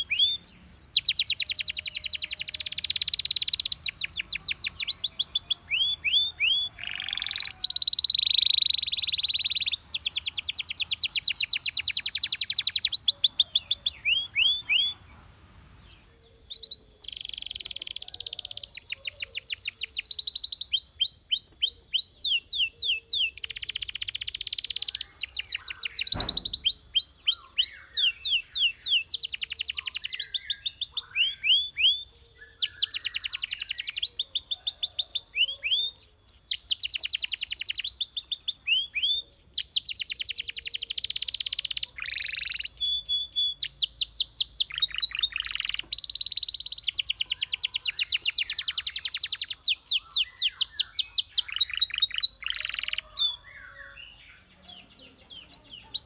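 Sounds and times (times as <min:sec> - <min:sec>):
canary singing rapid trills: 0:00.0 - 0:15.1, 0:16.0 - 0:56.0.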